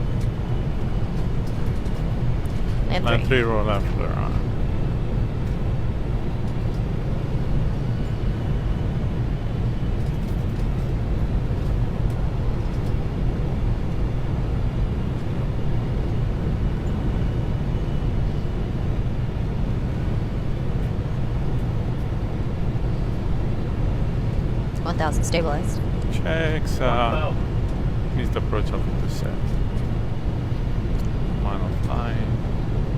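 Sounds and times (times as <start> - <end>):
cockpit airflow and engine rumble: 0.0 - 32.9.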